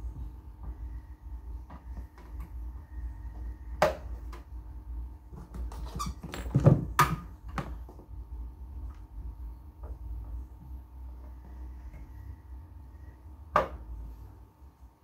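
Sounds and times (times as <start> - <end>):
low hum: 0.0 - 5.7, 7.2 - 15.0.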